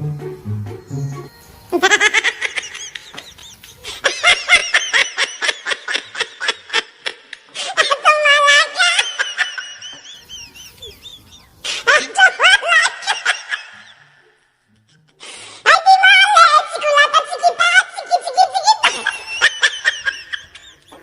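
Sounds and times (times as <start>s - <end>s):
high-pitched laughter: 1.7s - 14.2s, 15.7s - 21.0s.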